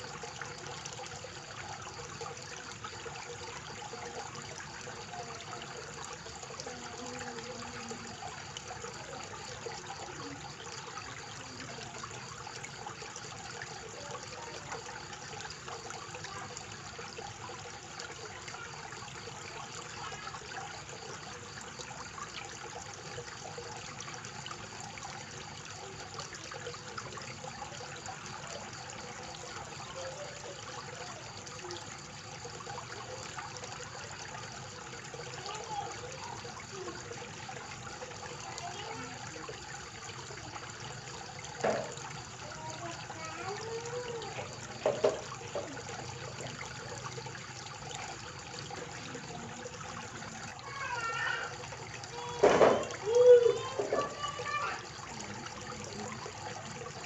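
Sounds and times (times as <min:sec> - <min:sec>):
fountain water trickling and splashing: 0:00.0 - 0:57.0.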